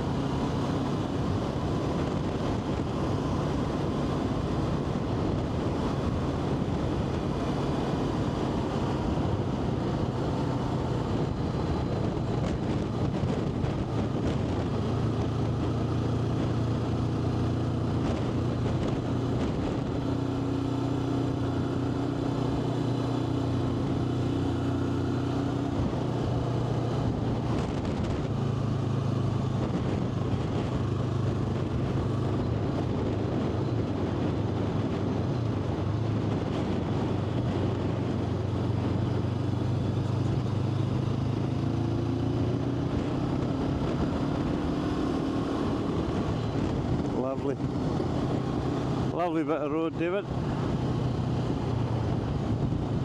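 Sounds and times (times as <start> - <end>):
motorcycle engine running: 0.0 - 53.0
road noise: 0.0 - 53.0
wind noise: 0.0 - 53.0.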